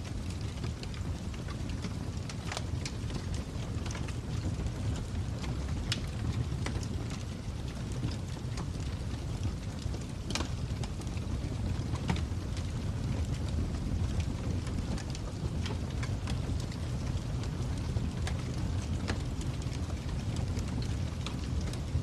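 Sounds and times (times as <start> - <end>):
fire crackling: 0.0 - 22.0
fire pops and snaps: 0.0 - 22.0.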